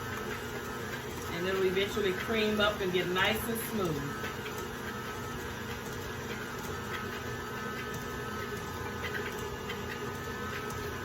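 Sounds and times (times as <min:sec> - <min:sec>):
electric mixer humming: 0:00.0 - 0:11.0.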